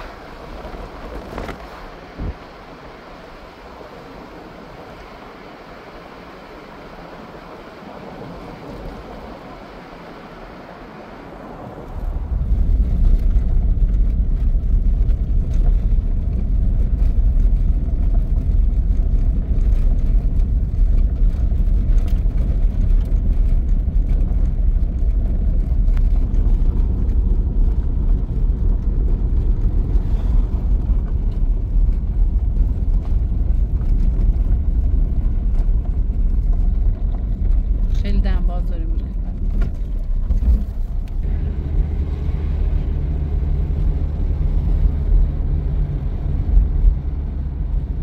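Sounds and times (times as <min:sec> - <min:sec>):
car driving over gravel: 0:00.0 - 0:48.0.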